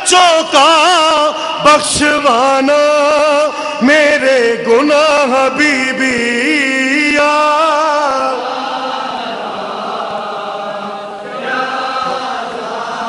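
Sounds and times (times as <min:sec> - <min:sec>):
man singing with vibrato: 0:00.0 - 0:13.0
men chanting a lament: 0:00.0 - 0:13.0.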